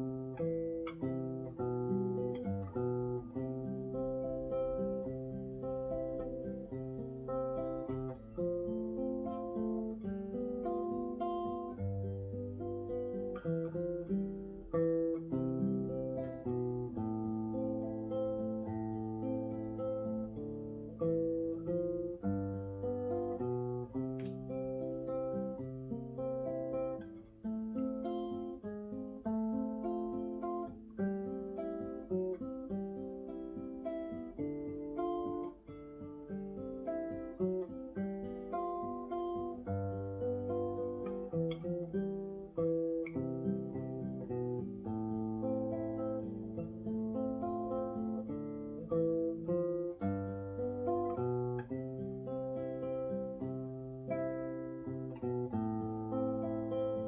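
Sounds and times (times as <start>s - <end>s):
solo acoustic guitar melody: 0.0s - 57.0s.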